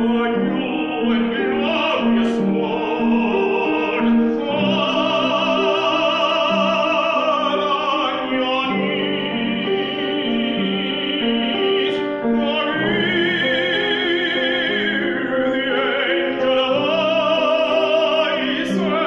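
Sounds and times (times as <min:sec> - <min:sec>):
grand piano low notes: 0:00.0 - 0:19.0
man singing operatically: 0:00.0 - 0:19.0.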